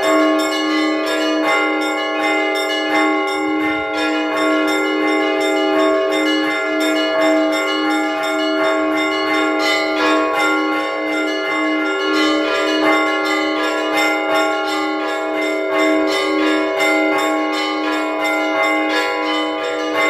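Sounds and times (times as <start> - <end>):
large bells ringing: 0.0 - 20.0
small church bells struck quickly: 0.0 - 20.0.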